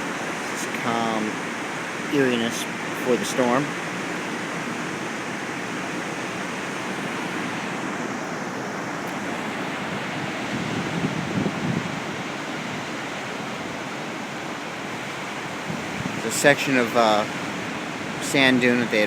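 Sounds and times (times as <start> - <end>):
ocean surf washing onto beach: 0.0 - 19.0
wave breaking: 0.0 - 19.0.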